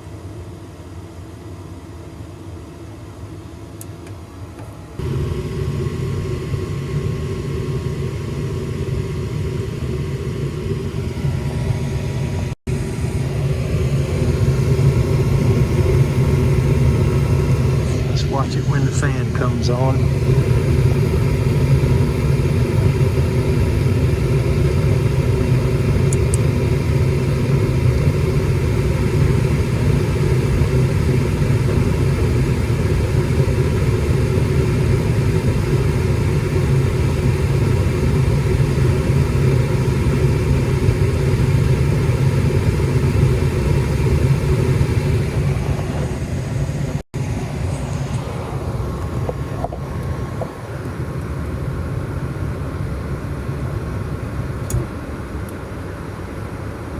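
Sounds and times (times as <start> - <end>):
gas furnace rumbling: 3.6 - 56.9.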